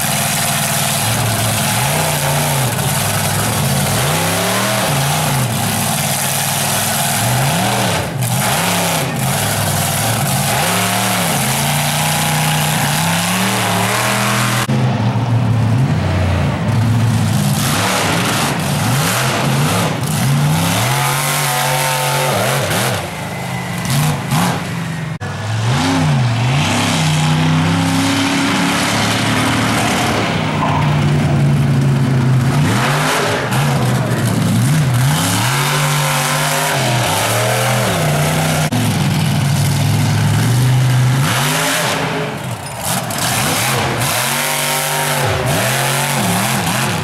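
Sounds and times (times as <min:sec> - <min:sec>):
monster truck engine revving: 0:00.0 - 0:47.0.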